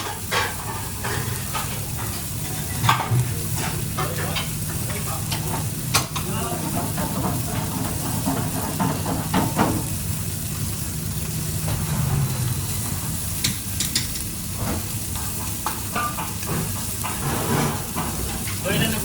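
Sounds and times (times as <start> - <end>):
utensils clinking on cookware: 0.0 - 10.0, 11.7 - 14.3, 15.1 - 19.0
food sizzling in a pan: 0.0 - 19.0.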